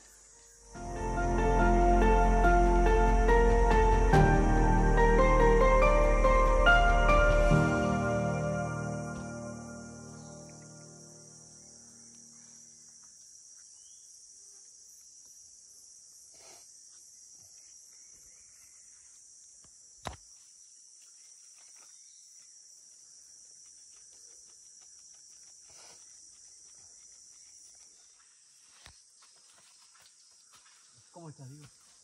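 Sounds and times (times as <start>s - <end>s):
insect chorus buzzing: 0.0s - 32.0s.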